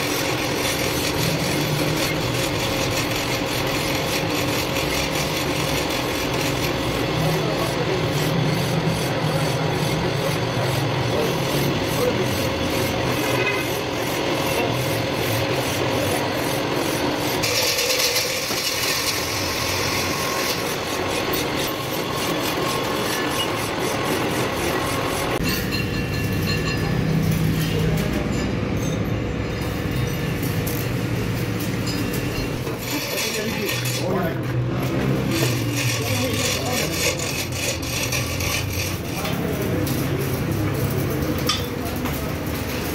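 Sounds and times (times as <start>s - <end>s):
tool scraping on metal: 0.0s - 42.9s.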